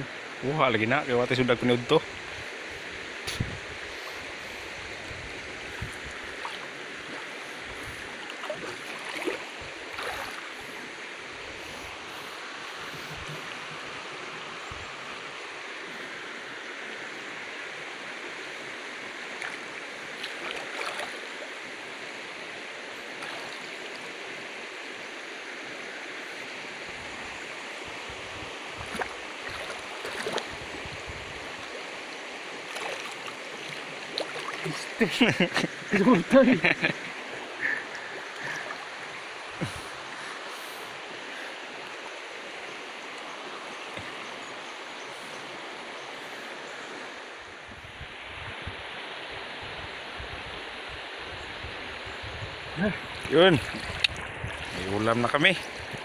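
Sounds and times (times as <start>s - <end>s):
river water running over rocks: 0.0s - 56.0s.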